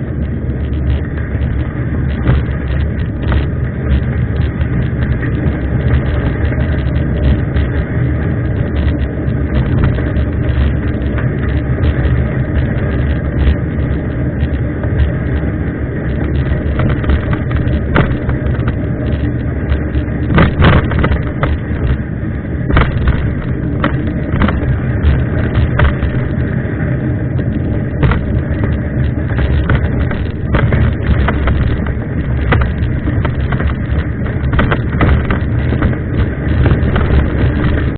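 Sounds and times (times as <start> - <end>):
bike knocks and rattles: 0.0 - 37.9
bike riding rumble: 0.0 - 37.9
wind: 0.0 - 37.9.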